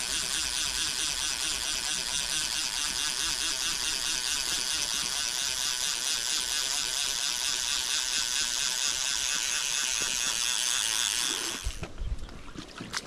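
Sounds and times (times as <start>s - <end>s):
fishing reel ratchet buzzing: 0.0s - 11.9s.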